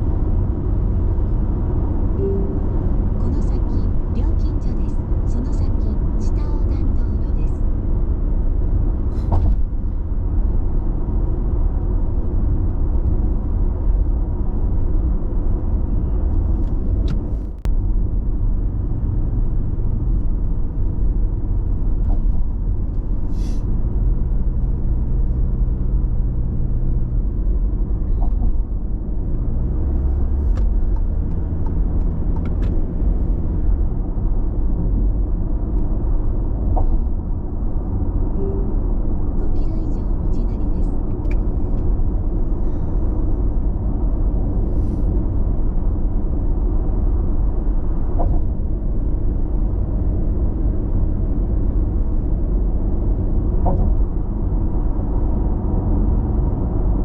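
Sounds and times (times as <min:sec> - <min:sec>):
car tyre and engine rumble: 0:00.0 - 0:57.0.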